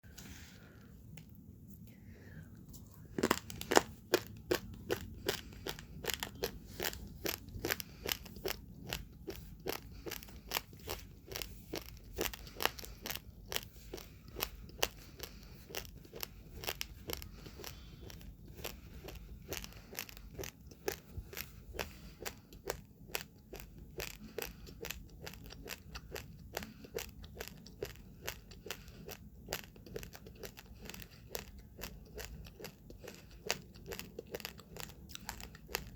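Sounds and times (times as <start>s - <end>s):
chewing uncooked rice: 2.6s - 35.9s.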